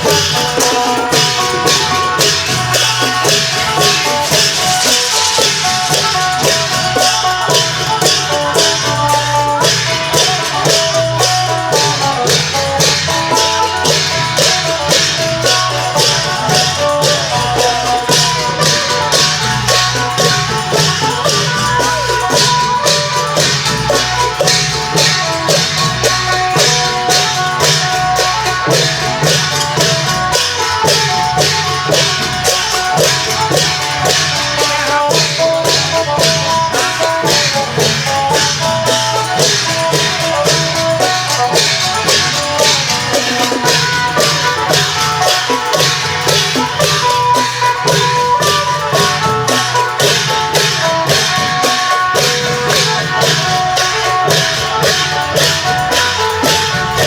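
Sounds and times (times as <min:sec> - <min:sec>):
clashing cymbals: 0:00.0 - 0:57.0.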